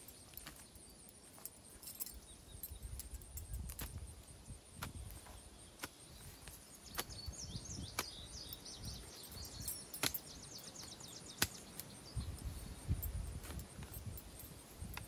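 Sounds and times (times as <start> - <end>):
small bird twittering: 0.0 - 14.2.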